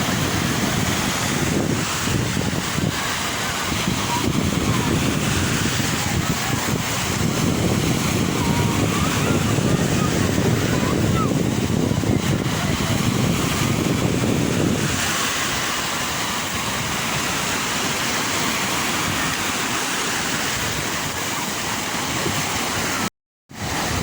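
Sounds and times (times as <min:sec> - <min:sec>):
sea waves washing in: 0:00.0 - 0:24.0.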